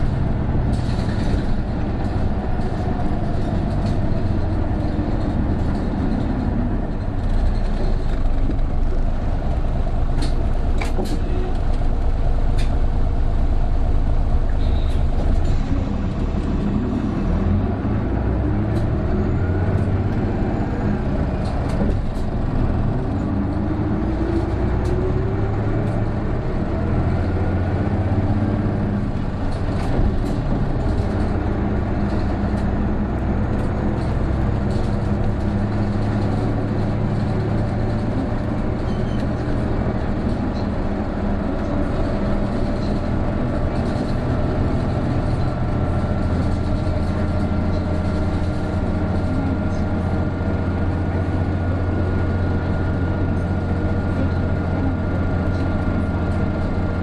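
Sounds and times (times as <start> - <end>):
bus diesel engine pulling: 0.0 - 57.0.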